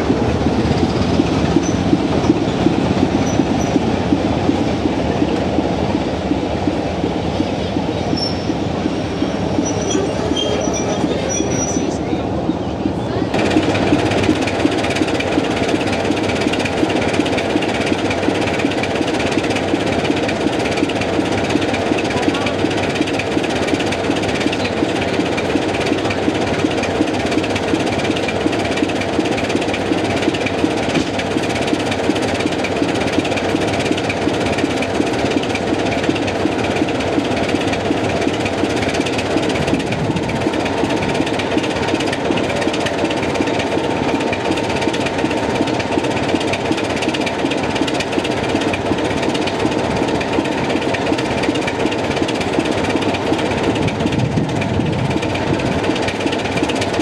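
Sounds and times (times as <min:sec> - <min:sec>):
diesel locomotive engine idling: 0:00.0 - 0:57.0.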